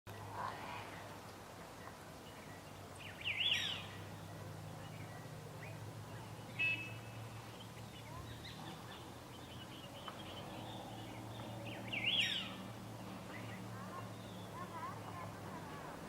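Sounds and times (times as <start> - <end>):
birds chirping: 1.7 - 16.0.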